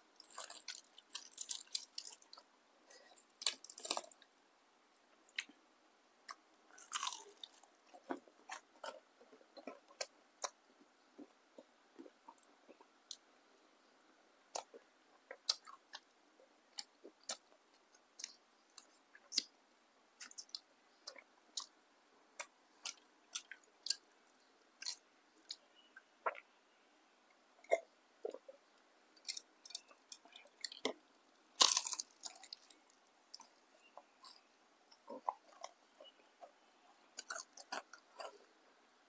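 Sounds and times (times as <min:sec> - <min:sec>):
crunchy fried food chewing: 0:00.0 - 0:04.4, 0:06.2 - 0:13.3, 0:14.4 - 0:26.5, 0:27.6 - 0:38.7.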